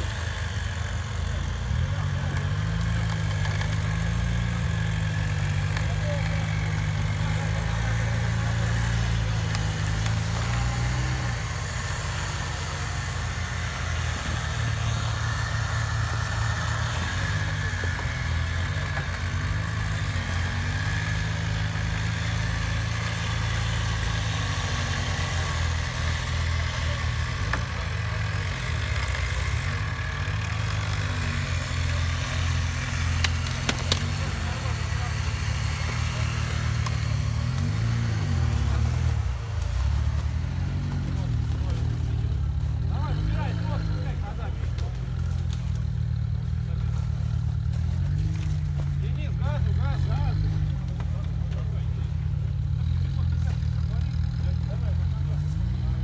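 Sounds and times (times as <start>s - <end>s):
engine running at low revs: 0.0s - 56.0s.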